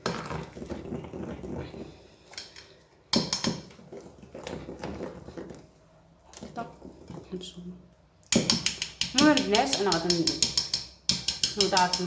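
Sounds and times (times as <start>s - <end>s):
utensil stirring cake batter: 0.0s - 12.0s.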